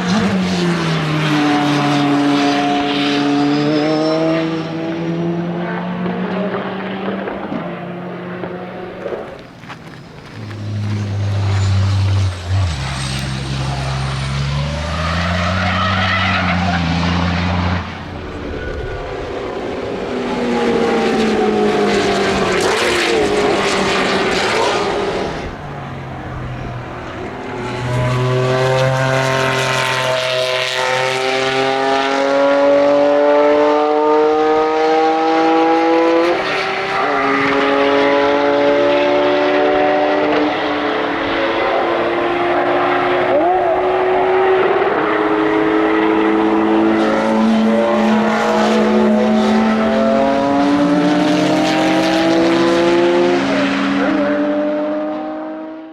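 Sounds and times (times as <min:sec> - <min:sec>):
high-revving car engine accelerating: 0:00.0 - 0:09.5, 0:10.1 - 0:55.9.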